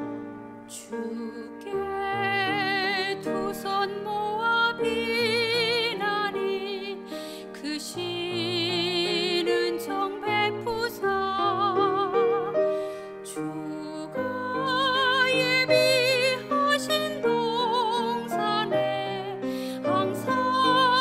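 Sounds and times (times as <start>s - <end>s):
piano accompaniment: 0.0s - 21.0s
soprano singing sacred song: 0.7s - 21.0s.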